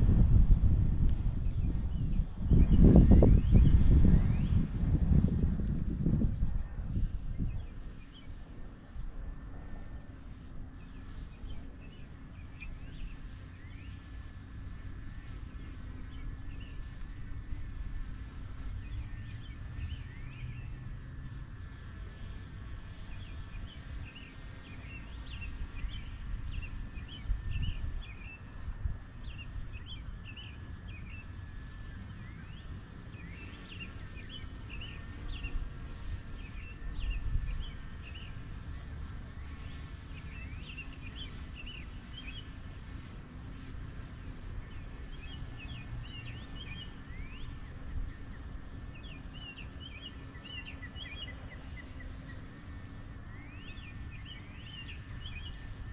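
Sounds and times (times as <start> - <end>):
low outdoor rumble: 0.0 - 55.9
birds chirping: 7.4 - 8.8, 9.6 - 55.9.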